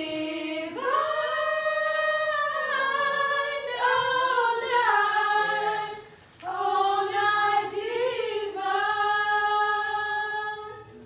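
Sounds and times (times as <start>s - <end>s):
girls singing unaccompanied: 0.0s - 11.0s.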